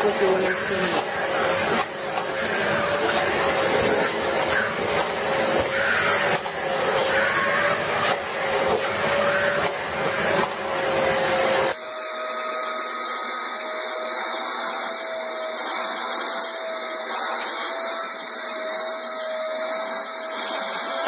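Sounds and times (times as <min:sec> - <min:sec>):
motor whine: 0:00.0 - 0:21.0.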